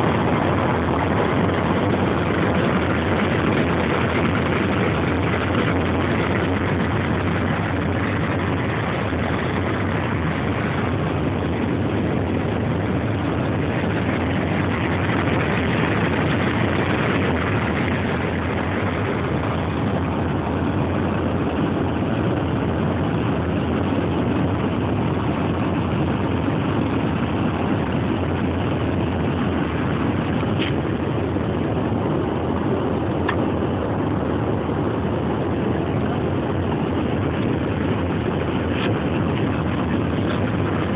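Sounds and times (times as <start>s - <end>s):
jet engines and airflow in cabin: 0.0s - 40.9s.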